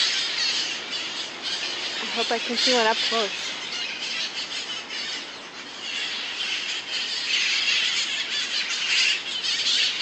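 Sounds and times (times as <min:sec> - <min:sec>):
parrots squawking and screeching: 0:00.0 - 0:10.0.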